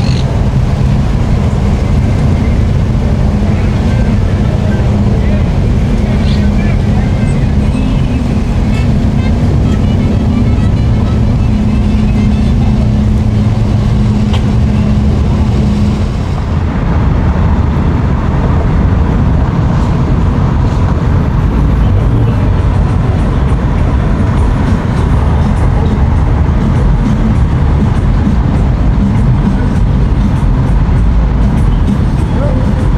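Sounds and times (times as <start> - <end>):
boat engines rumbling: 0.0 - 32.9
held low hum: 0.0 - 32.9.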